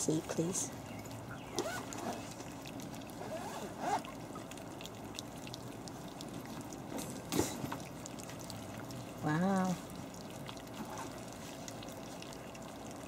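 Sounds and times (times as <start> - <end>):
puppies lapping and chewing: 0.0 - 13.0.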